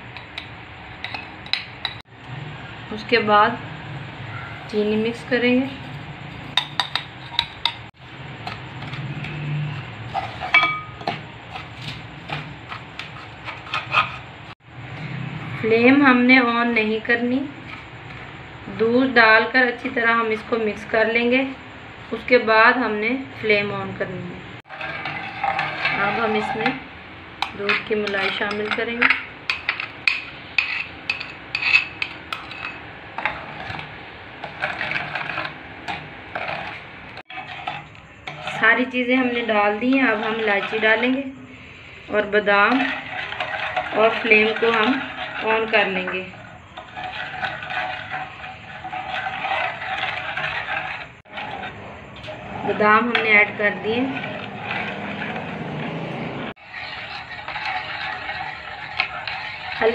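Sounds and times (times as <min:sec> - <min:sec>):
spoon scraping metal pan: 0:00.0 - 0:02.0, 0:04.7 - 0:23.0, 0:24.6 - 0:59.9.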